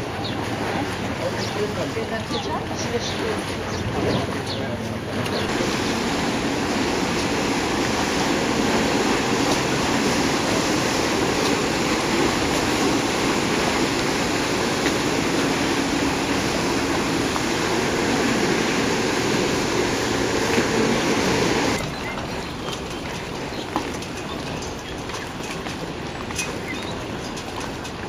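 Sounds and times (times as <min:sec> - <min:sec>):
paddle wheels churning water: 0:00.0 - 0:28.0.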